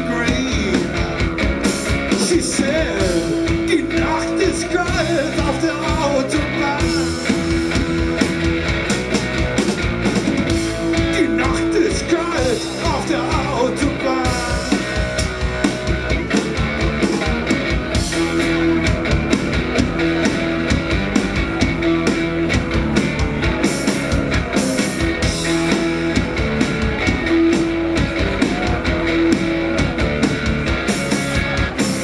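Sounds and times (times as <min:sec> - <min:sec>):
electric guitar: 0:00.0 - 0:32.0
steady drum beat: 0:00.0 - 0:32.0.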